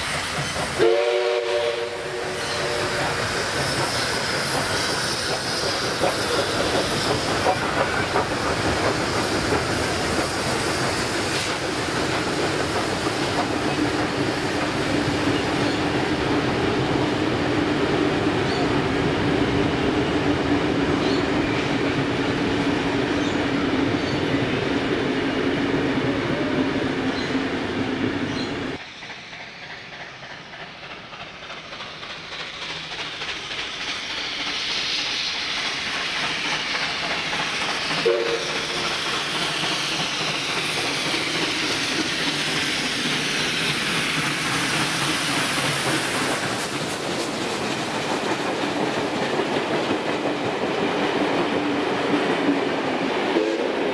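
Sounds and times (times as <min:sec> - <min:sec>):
steam locomotive passing: 0:00.0 - 0:53.9
train carriages rolling past: 0:00.0 - 0:53.9.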